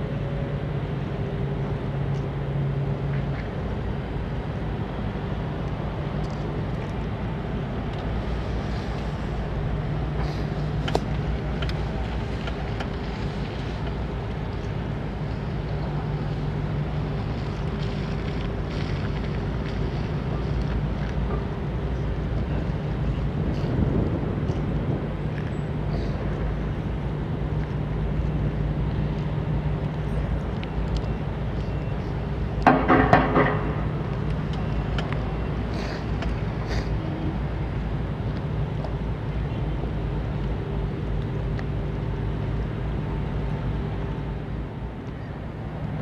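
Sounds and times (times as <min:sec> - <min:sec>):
ship engine drone: 0:00.0 - 0:46.0.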